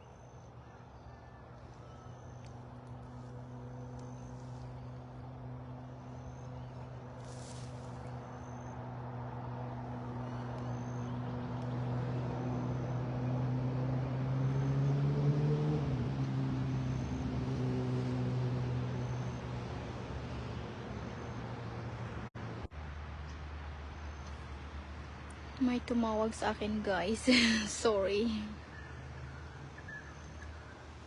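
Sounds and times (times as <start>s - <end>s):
passing vehicle engine hum: 0.0s - 31.0s.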